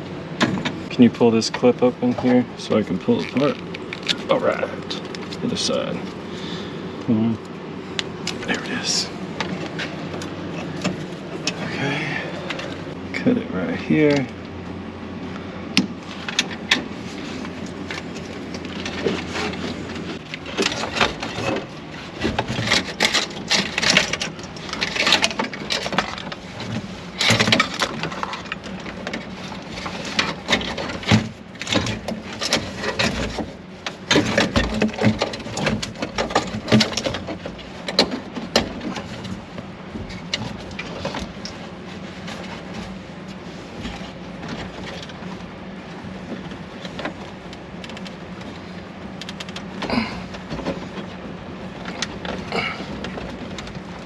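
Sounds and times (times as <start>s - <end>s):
wiring and plastic rustling: 0.0s - 54.0s.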